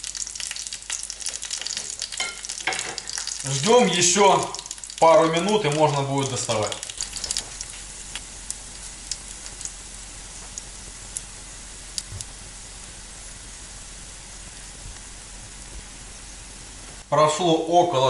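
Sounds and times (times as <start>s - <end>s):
dumplings sizzling in oil: 0.0s - 17.1s.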